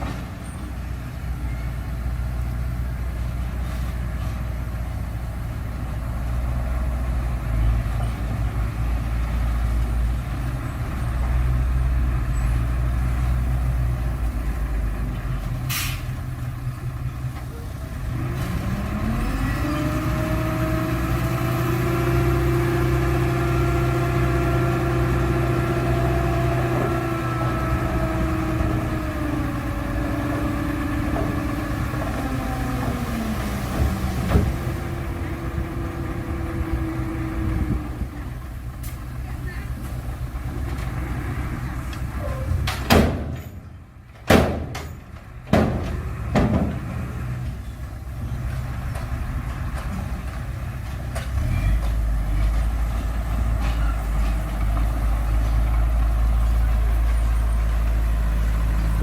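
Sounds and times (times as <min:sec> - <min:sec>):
diesel engine of earthmoving machine: 0:00.0 - 0:59.0.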